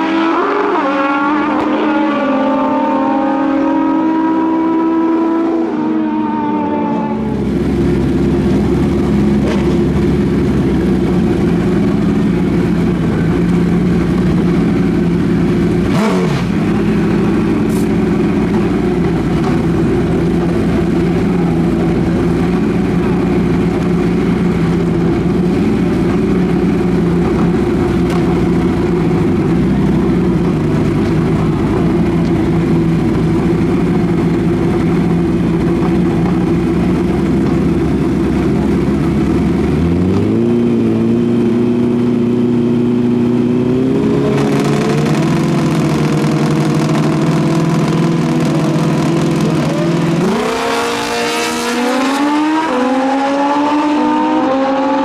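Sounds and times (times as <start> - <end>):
motorcycle engines idling: 5.0 - 43.7, 44.3 - 51.9.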